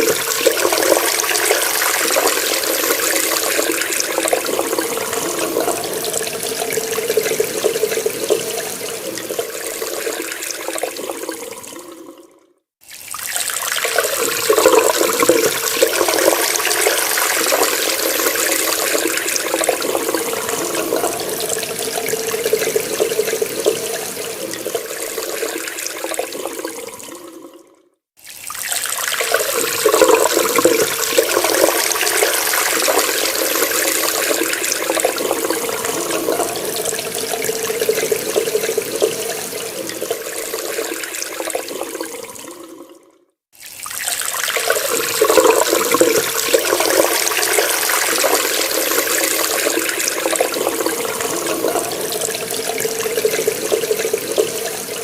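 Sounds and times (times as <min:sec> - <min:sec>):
water running from a tap: 0:00.0 - 0:27.6, 0:28.2 - 0:55.0.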